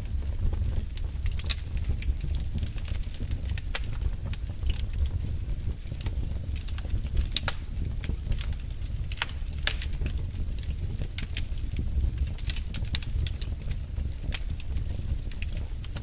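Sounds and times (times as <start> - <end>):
low steady rumble: 0.0 - 16.0
wood fire crackling: 0.0 - 16.0.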